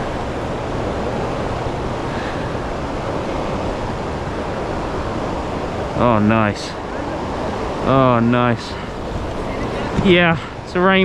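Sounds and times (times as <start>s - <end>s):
turbulent river water rushing: 0.0s - 11.0s.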